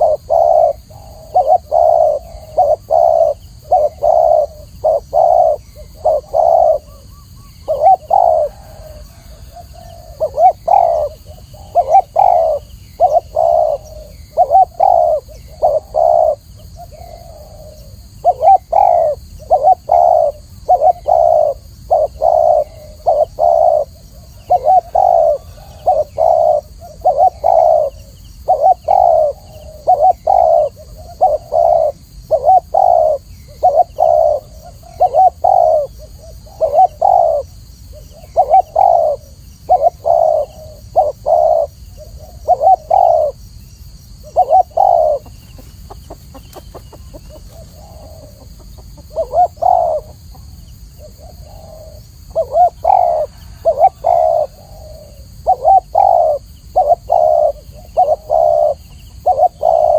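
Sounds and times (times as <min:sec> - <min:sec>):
dove cooing: 0:00.0 - 0:43.5, 0:44.1 - 0:59.9.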